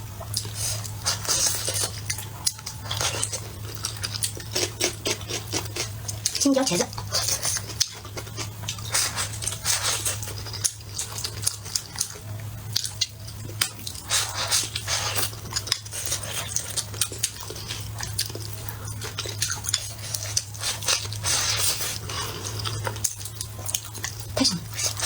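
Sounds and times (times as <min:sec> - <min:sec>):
steady low hum: 0:00.0 - 0:25.0
chewing and biting: 0:00.2 - 0:25.0.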